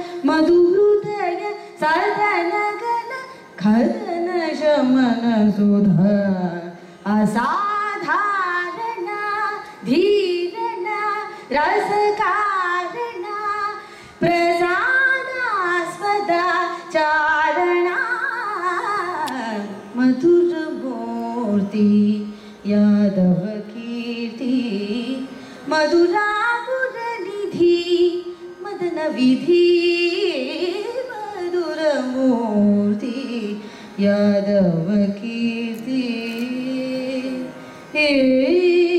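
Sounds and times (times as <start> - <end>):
woman singing: 0.0 - 38.9.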